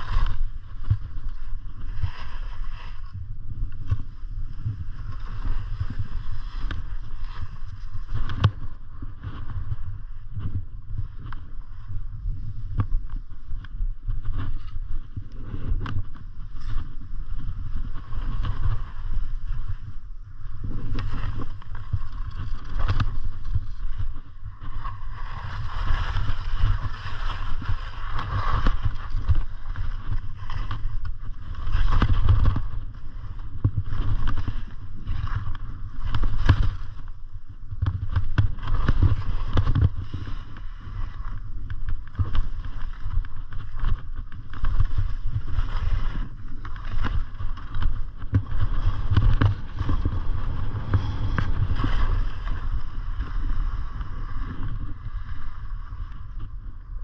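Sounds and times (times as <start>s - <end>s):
skis scraping over snow: 0.0s - 56.6s
wind buffeting microphone: 0.0s - 57.0s.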